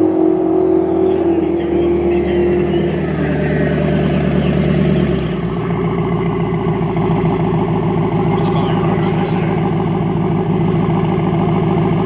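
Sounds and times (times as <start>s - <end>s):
car engines running: 0.0s - 12.0s
car engine idling up close: 1.2s - 12.0s.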